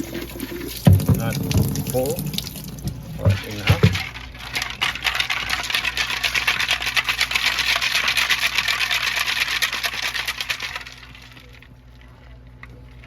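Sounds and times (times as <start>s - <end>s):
salt and water rattling in housing: 0.0s - 13.0s.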